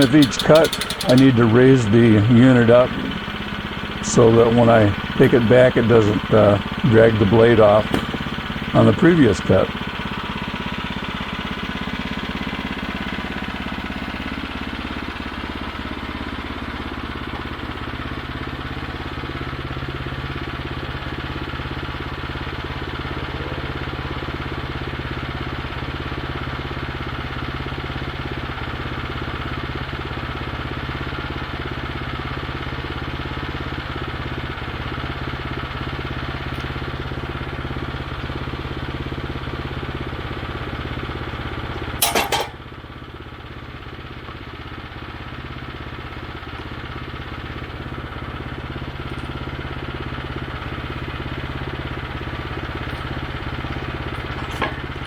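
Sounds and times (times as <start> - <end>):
gasoline engine running steadily: 0.0 - 55.0.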